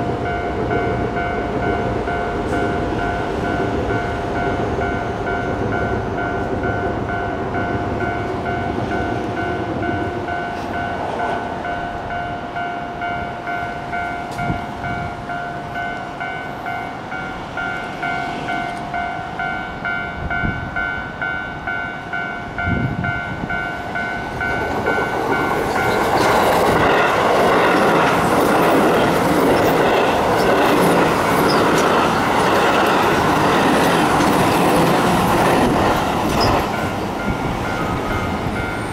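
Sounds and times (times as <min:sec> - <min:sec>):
level crossing warning bell: 0:00.0 - 0:38.9
train rushing past: 0:00.0 - 0:38.9.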